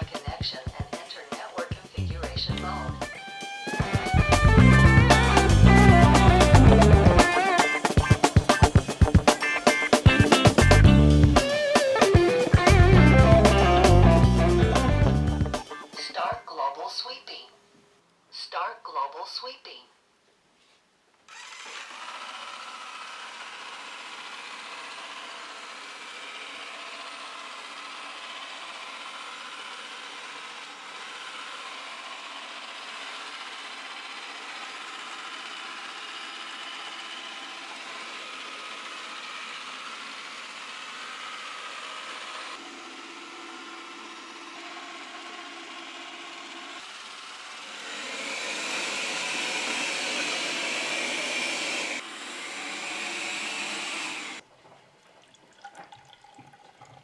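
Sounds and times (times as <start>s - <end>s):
robot vacuum whirring: 3.0s - 16.1s, 21.3s - 54.4s.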